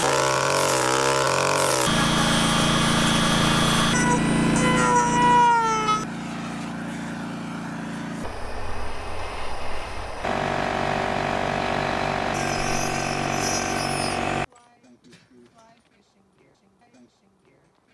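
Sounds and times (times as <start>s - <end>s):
power carving tools on wood: 0.0s - 14.5s.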